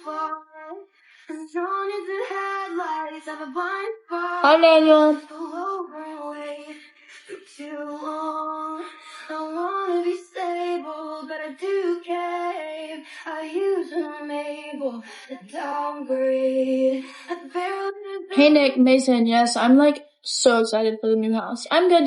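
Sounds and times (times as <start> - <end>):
woman singing: 0.0 - 19.0.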